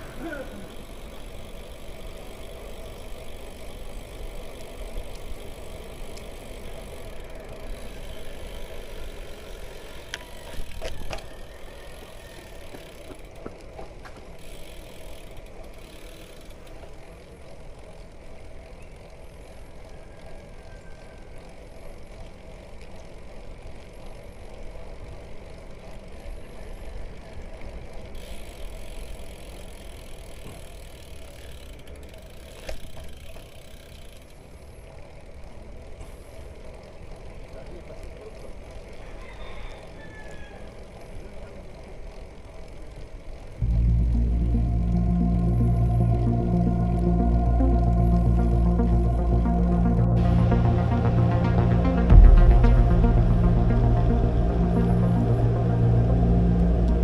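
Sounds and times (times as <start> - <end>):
bike tyres rolling on asphalt: 0.0 - 57.0.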